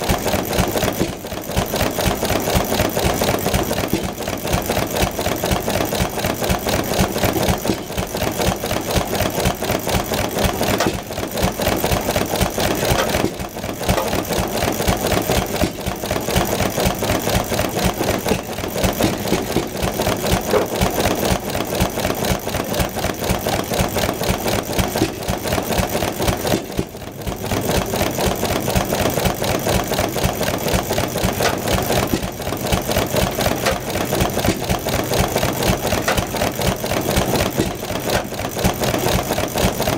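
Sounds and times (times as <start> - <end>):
single-cylinder engine ticking: 0.0 - 39.9.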